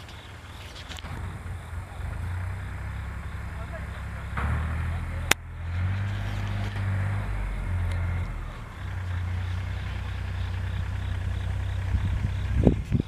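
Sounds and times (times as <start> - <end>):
harvesting machine engine humming: 0.0 - 13.0.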